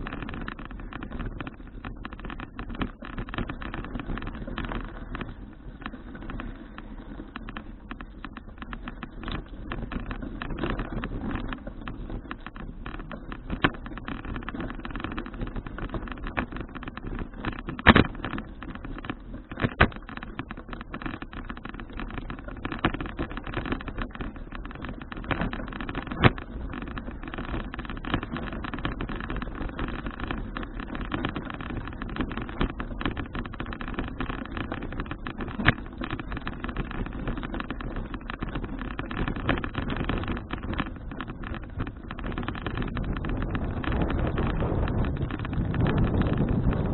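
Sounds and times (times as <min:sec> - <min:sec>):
bicycle rattles and knocks: 0:00.0 - 0:46.9
tyres and wind rumble: 0:00.0 - 0:46.9.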